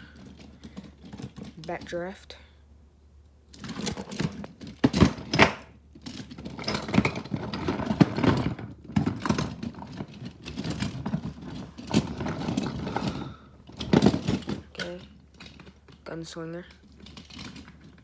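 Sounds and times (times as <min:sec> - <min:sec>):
toy trucks clattering together: 0:00.0 - 0:02.3, 0:03.5 - 0:18.0.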